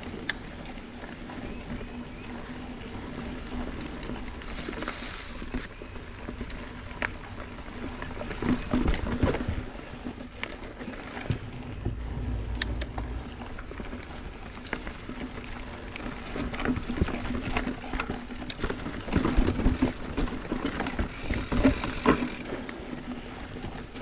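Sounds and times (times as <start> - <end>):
bike rattling over bumps: 0.0 - 24.0.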